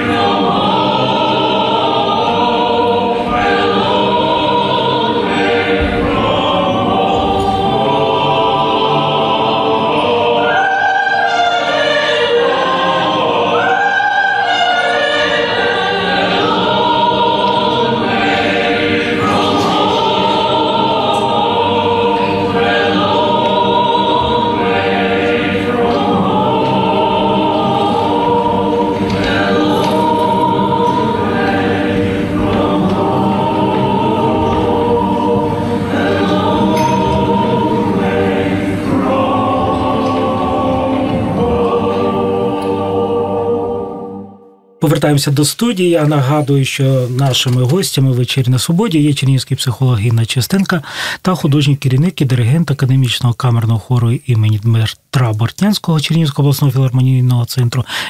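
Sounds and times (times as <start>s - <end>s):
choir singing: 0.0s - 49.8s.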